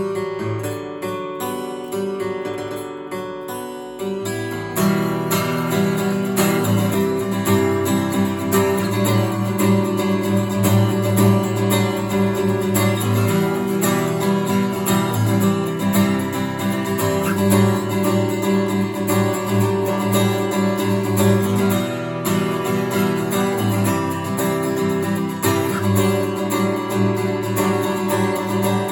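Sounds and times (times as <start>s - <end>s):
acoustic guitar strummed: 0.0s - 28.9s.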